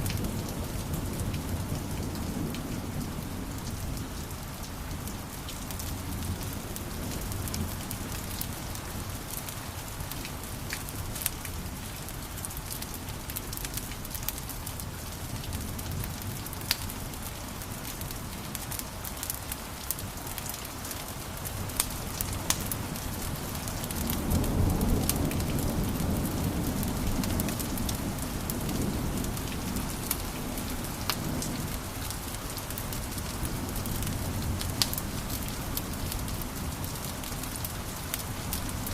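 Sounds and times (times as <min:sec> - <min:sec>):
low rumble of flames: 0:00.0 - 0:38.9
wood fire crackling: 0:03.6 - 0:38.9.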